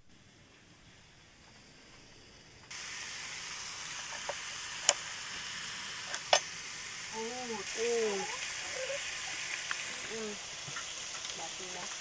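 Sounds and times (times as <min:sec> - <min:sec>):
meat sizzling on a grill: 0:00.2 - 0:12.0.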